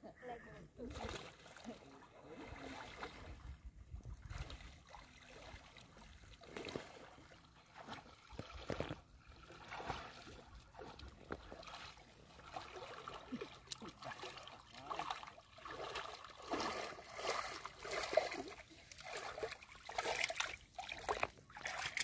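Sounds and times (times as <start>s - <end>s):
water sloshing around wading legs: 0.8s - 22.0s.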